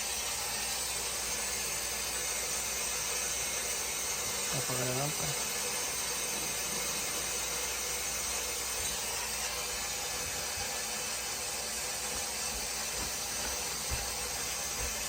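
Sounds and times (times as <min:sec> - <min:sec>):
water hissing through a pipe: 0:00.0 - 0:15.0.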